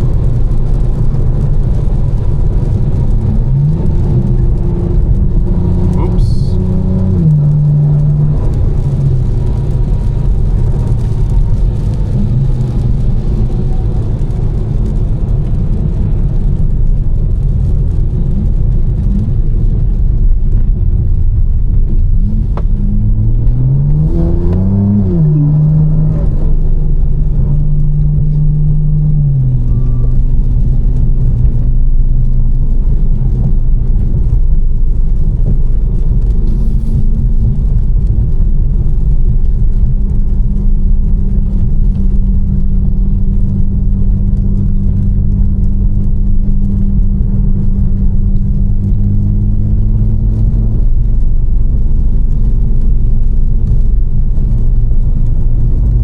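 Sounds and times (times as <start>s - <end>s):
car engine cruising: 0.0s - 56.0s
wet road noise: 0.0s - 56.0s.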